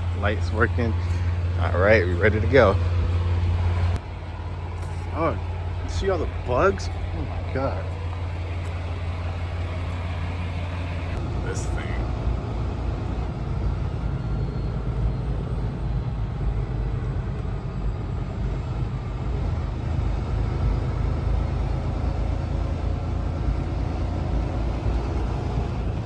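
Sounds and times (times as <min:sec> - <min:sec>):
road noise: 0:00.0 - 0:26.0
truck engine rumble: 0:00.0 - 0:26.0.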